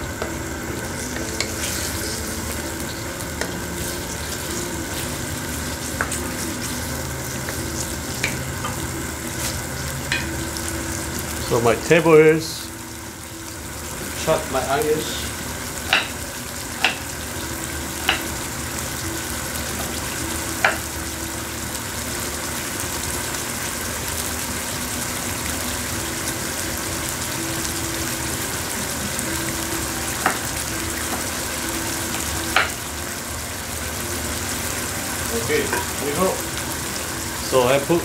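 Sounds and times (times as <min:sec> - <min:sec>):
chicken sizzling in a frying pan: 0:00.0 - 0:38.0.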